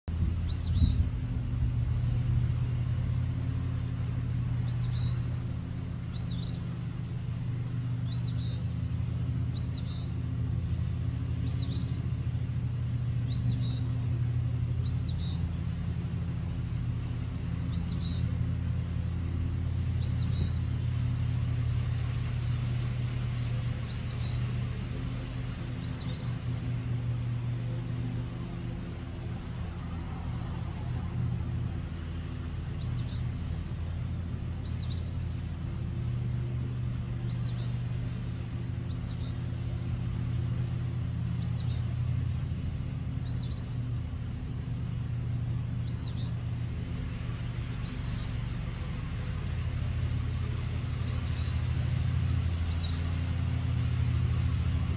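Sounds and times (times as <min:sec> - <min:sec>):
steady low rumble: 0:00.0 - 0:54.9
songbird calling: 0:00.2 - 0:54.9.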